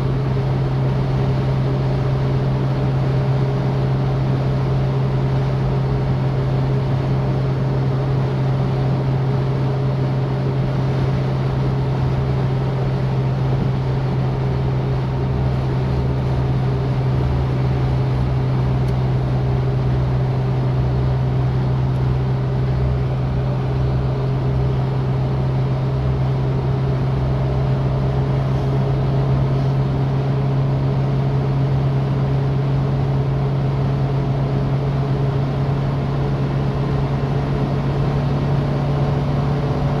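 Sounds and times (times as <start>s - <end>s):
car engine cruising: 0.0s - 40.0s
road noise: 0.0s - 40.0s.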